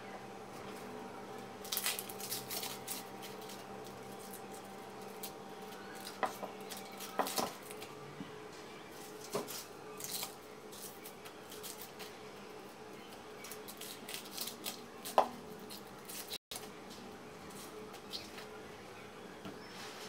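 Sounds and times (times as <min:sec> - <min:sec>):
dry onion skin rustling: 0:00.5 - 0:08.1, 0:08.7 - 0:18.6.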